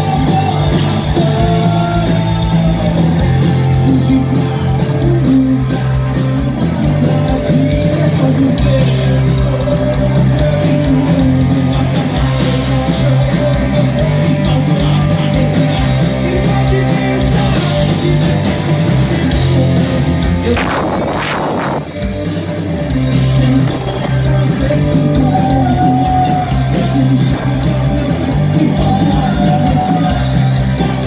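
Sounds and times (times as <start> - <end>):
person singing: 0.0 - 22.1, 22.9 - 31.0
live rock band playing: 0.0 - 31.0.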